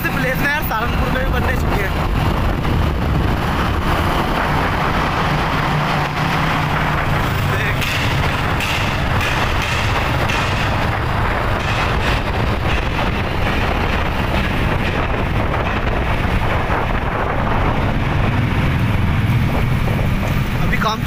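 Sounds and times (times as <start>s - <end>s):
traffic rumble in tunnel: 0.0s - 21.0s
wind noise on microphone: 0.1s - 21.0s.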